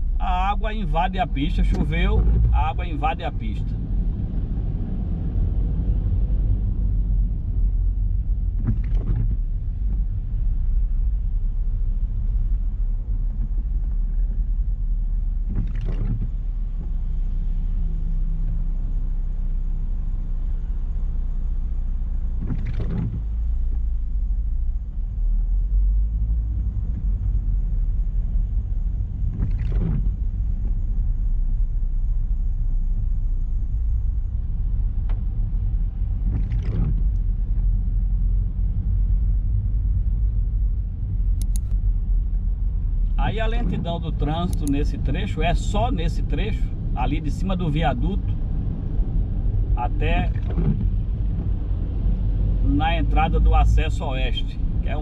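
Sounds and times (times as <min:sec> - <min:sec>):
car engine and tyres rumble: 0:00.0 - 0:55.0
windshield wiper sweep: 0:07.3 - 0:18.9, 0:21.7 - 0:41.6, 0:42.2 - 0:55.0.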